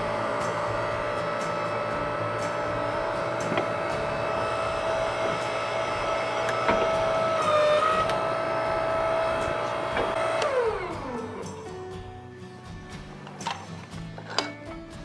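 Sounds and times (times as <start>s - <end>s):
electric motor humming: 0.0s - 14.2s.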